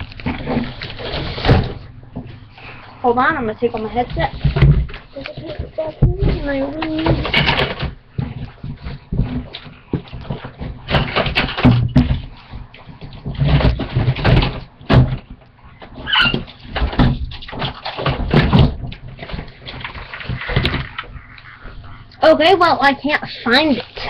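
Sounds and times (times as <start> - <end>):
thumps and knocks of rummaging: 0.0 - 2.5, 3.6 - 21.8.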